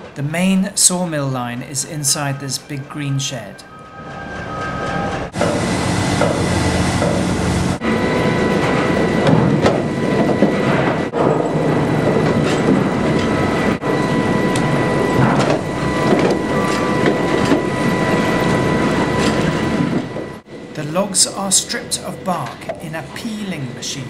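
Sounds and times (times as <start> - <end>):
high machine whine: 0.0 - 24.0.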